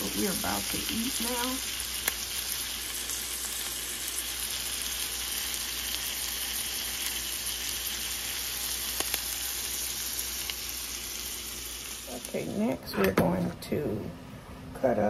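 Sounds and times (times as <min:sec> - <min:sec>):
chicken sizzling in oil: 0:00.0 - 0:12.5.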